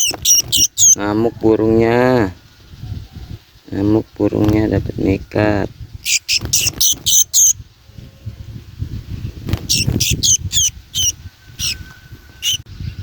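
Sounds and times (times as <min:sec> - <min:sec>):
songbird high-pitched calls: 0:00.0 - 0:13.0.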